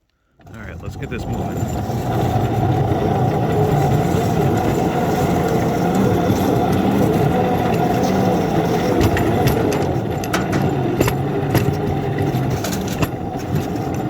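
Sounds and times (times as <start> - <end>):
small locomotive running: 0.3 - 14.0.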